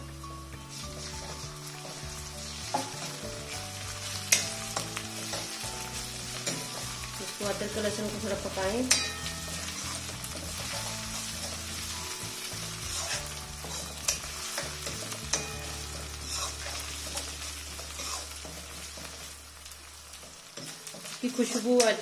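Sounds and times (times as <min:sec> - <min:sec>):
onions sizzling in hot oil: 0:00.0 - 0:22.0
metal spatula scraping a pan: 0:00.7 - 0:19.4.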